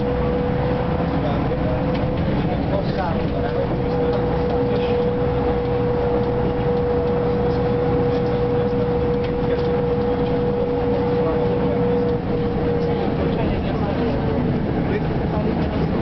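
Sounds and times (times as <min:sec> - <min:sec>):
bus engine and road rumble: 0:00.0 - 0:16.0
steady whine: 0:00.0 - 0:16.0.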